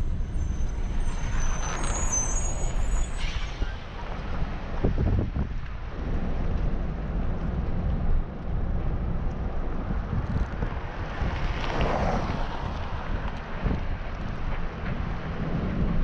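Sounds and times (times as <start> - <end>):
street traffic: 0.0 - 16.0
wind buffeting microphone: 2.7 - 16.0.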